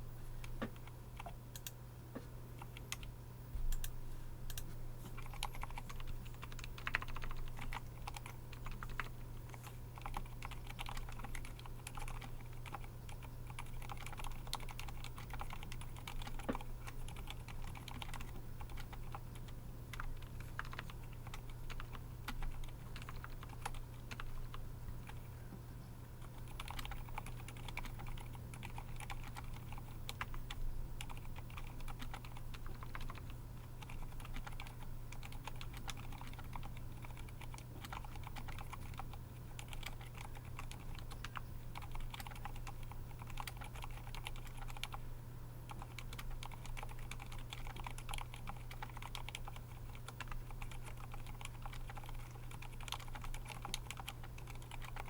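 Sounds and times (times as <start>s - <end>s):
mechanical keyboard typing: 5.2s - 25.2s, 26.2s - 45.0s, 45.7s - 55.0s.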